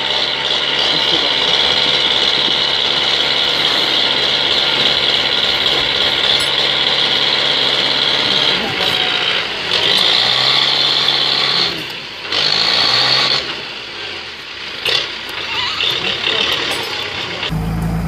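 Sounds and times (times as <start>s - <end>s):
tractor engine running hard: 0.0s - 18.0s.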